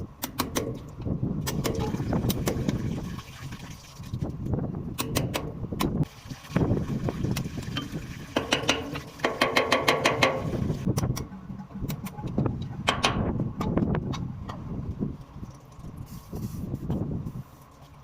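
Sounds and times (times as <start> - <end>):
steady low rumble: 0.0 - 8.2, 10.4 - 17.6.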